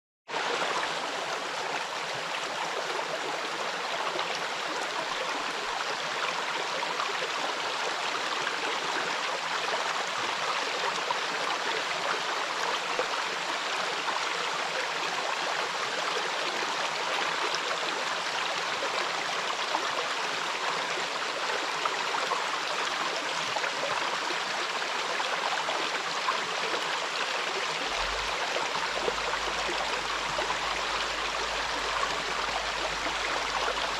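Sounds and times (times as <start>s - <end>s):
water rushing in waterfall: 0.3s - 33.9s.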